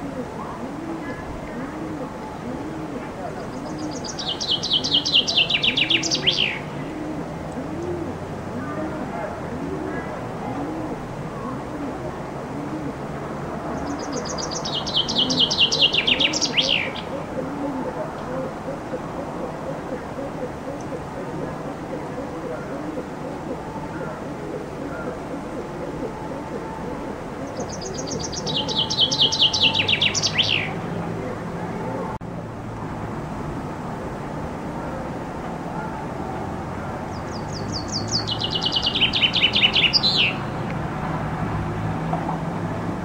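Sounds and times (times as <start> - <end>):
chaffinch singing: 0.0 - 13.0, 13.7 - 32.2, 37.0 - 40.8.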